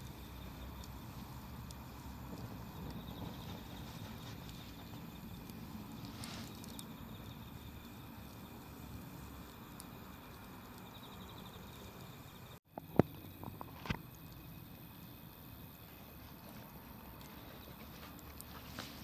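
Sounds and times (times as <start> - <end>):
campfire burning: 0.0 - 19.0
fire popping and crackling: 0.0 - 19.0
insects chirping: 0.0 - 19.0.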